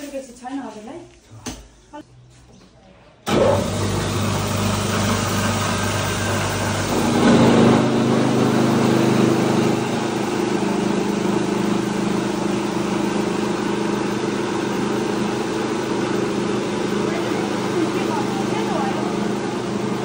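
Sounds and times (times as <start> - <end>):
rice mill motor hum: 3.3 - 20.0.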